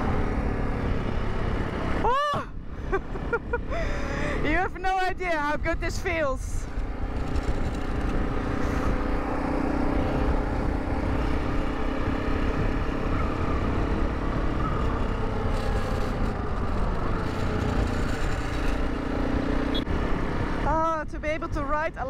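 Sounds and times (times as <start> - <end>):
motorcycle engine running: 0.0 - 4.6, 5.4 - 22.0
wind rumble on microphone: 0.0 - 22.0.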